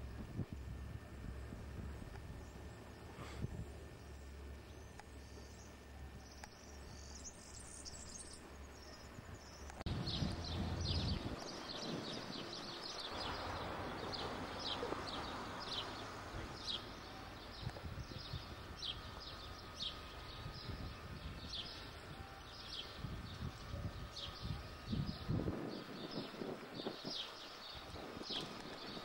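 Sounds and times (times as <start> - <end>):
faint outdoor background noise: 0.0 - 29.0.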